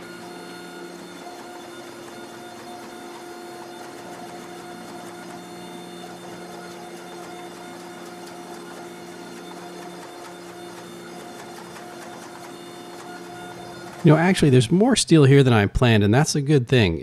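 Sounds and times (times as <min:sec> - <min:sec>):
hydraulic press pump humming: 0:00.0 - 0:14.7.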